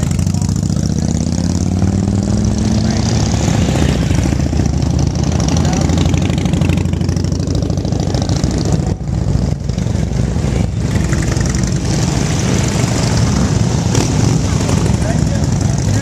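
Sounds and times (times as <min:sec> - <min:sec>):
motorcycles rumbling past: 0:00.0 - 0:16.0.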